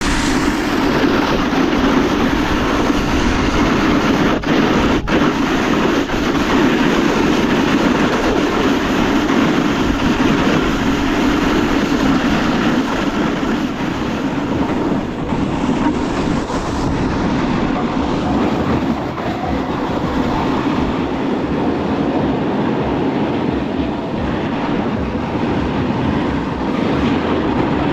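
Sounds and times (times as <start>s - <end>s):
wind noise: 0.0s - 27.9s.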